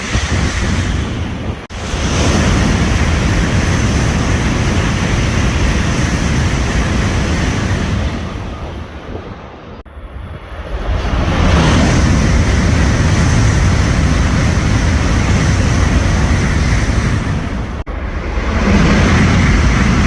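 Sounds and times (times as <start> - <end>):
high speed train rushing past: 0.0 - 20.0.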